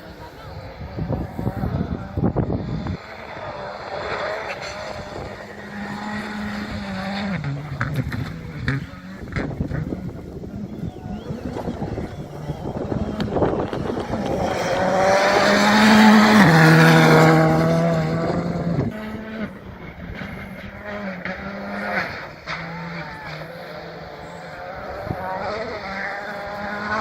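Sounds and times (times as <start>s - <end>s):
rally car passing at speed: 0.0s - 27.0s.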